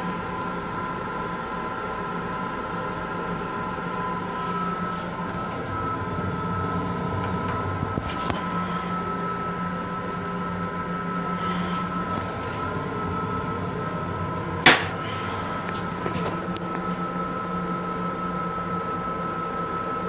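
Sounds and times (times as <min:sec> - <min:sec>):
train rumble and whine: 0:00.0 - 0:20.0.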